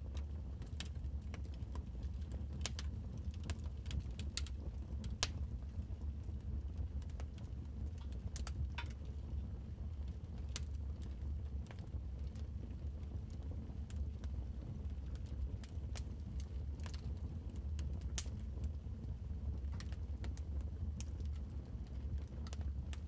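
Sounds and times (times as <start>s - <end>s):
low steady rumble: 0.0s - 23.0s
wood fire crackling and popping: 0.0s - 23.0s.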